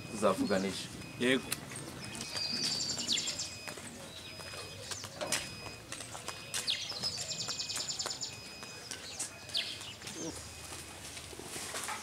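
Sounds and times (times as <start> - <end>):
songbirds singing: 0.0 - 10.7.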